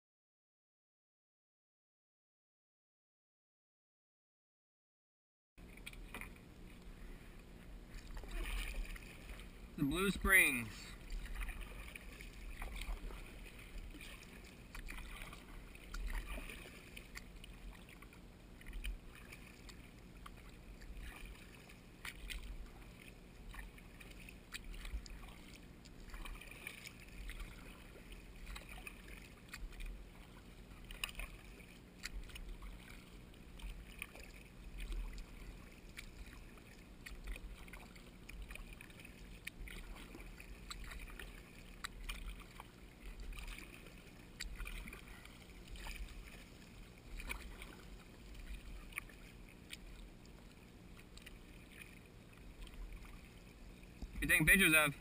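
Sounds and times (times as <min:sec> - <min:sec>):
light clicks and drips: 0:05.6 - 0:54.6
paddle splashing in water: 0:05.6 - 0:55.0.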